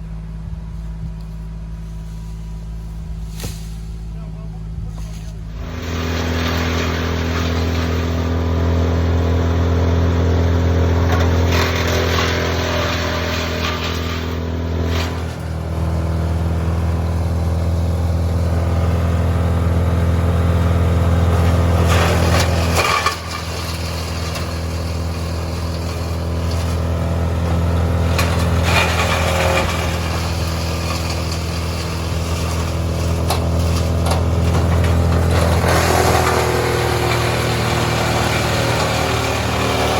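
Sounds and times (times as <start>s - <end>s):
large engine humming: 0.0s - 39.9s.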